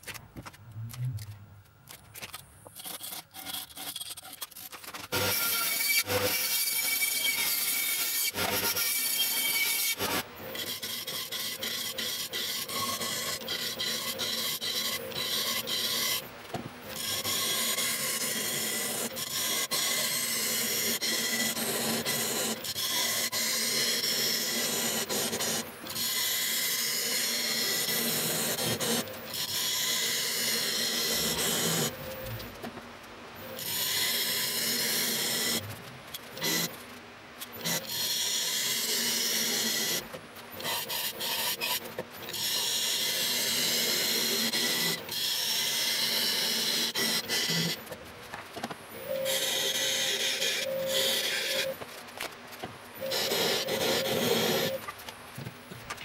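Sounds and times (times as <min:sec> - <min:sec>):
turning tool scraping wood: 0:00.0 - 0:16.3, 0:16.9 - 0:32.5, 0:37.4 - 0:55.1
bandsaw cutting wood: 0:02.8 - 0:16.3, 0:16.9 - 0:32.5, 0:33.5 - 0:35.7, 0:36.3 - 0:36.7, 0:37.5 - 0:48.0, 0:49.0 - 0:51.8, 0:53.0 - 0:54.8.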